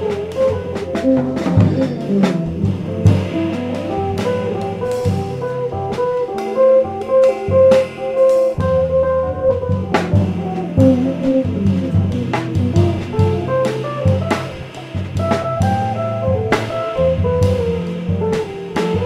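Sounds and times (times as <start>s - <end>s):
drums and cymbals: 0.0s - 19.0s
electric bass: 0.0s - 19.0s
electric guitar: 0.0s - 19.0s.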